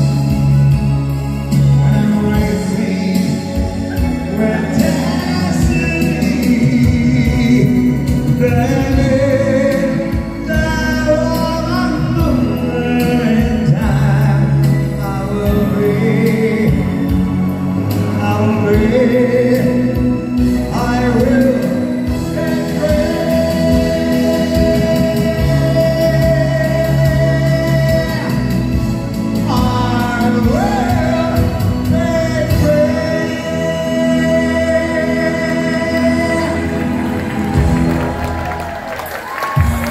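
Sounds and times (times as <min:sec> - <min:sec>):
music with singing: 0:00.0 - 0:39.9.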